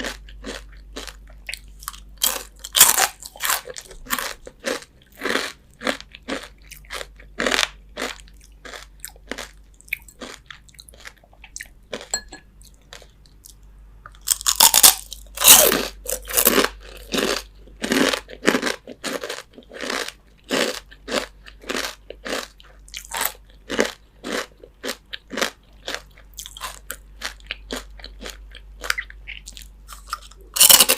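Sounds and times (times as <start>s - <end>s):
crunchy chicken skin chewing: 0.0s - 30.9s.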